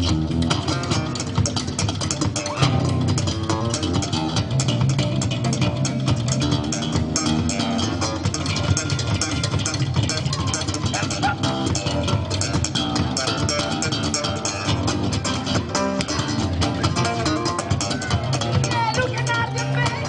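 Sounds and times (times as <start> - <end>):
bass guitar: 0.0 - 20.0
drum kit beat: 0.0 - 20.0
electric guitars: 0.0 - 20.0.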